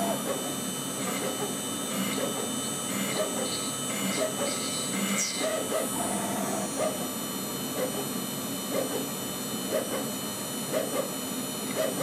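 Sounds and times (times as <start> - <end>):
milling machine drill whine: 0.0 - 12.0.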